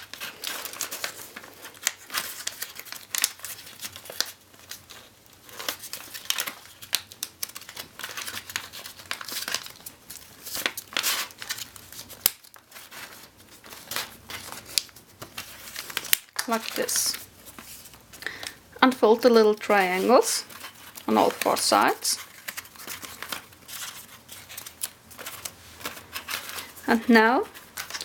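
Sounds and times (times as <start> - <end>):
paper being folded and creased: 0.0 - 18.5, 19.2 - 28.0.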